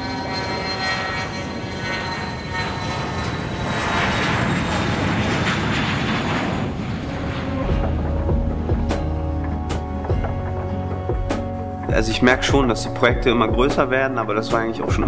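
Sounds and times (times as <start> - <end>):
airliner engines taking off: 0.0 - 15.0.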